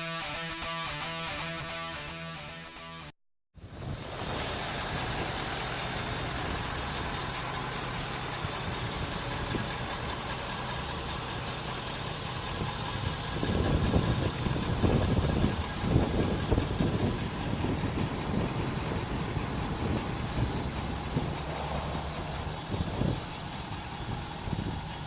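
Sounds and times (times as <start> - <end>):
low rumbling gusts: 3.6 - 25.0
truck engine idling: 3.6 - 25.0.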